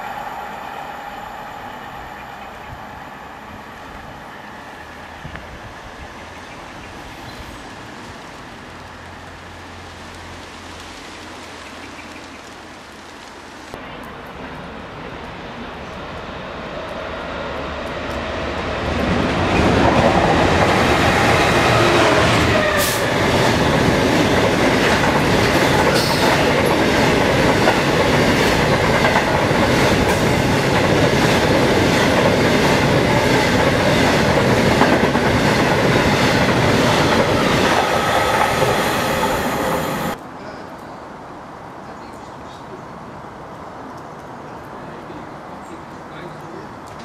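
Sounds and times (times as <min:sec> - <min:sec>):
diesel locomotive passing: 0:00.0 - 0:40.2.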